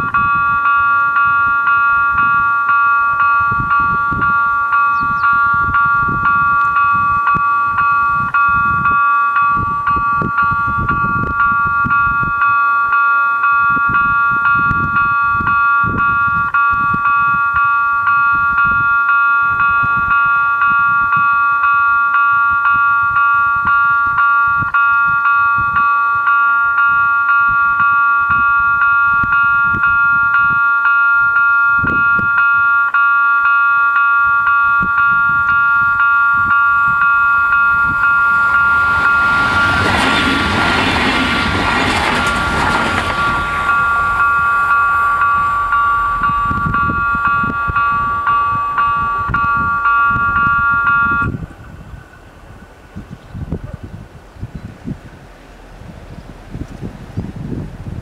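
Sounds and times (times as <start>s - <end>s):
level crossing warning bell: 0.0s - 54.0s
train passing: 0.0s - 58.0s.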